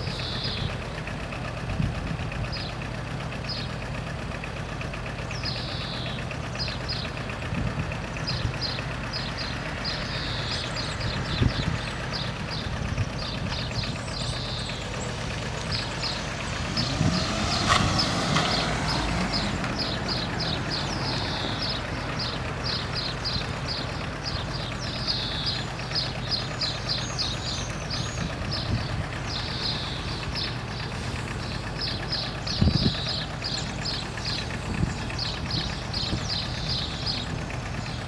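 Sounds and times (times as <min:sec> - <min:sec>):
birds chirping: 0:00.0 - 0:01.7, 0:02.3 - 0:38.0
idling car engines hum: 0:00.0 - 0:38.0.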